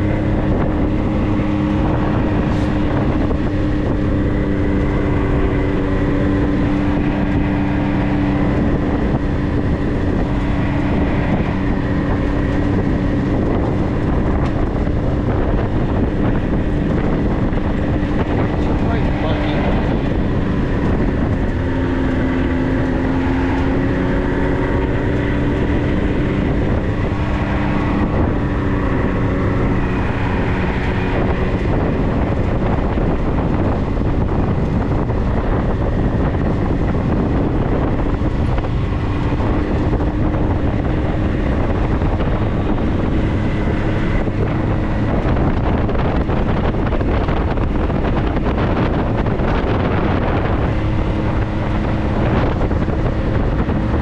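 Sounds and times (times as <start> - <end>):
off-road vehicle engine running: 0.0 - 54.0
wind noise on microphone: 0.0 - 54.0.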